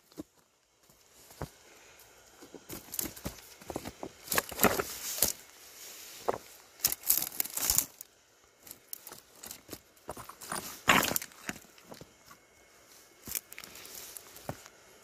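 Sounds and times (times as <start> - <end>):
footsteps through dry grass and stones: 0.0 - 15.0.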